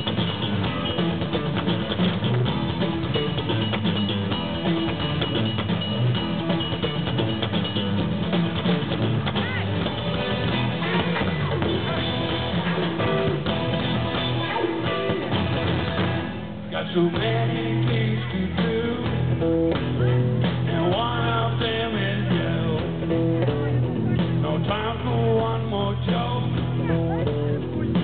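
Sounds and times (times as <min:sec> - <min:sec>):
live rock band instrumental: 0:00.0 - 0:28.0.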